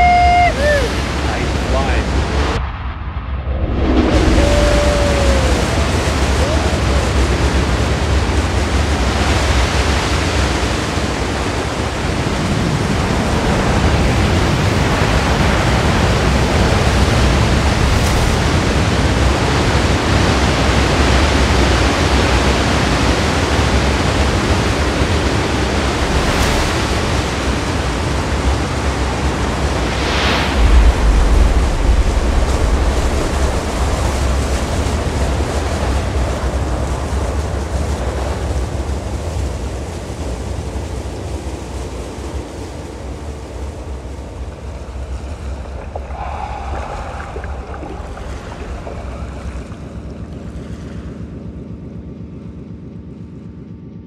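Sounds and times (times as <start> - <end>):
giant ocean wave breaking: 0.0 - 52.0.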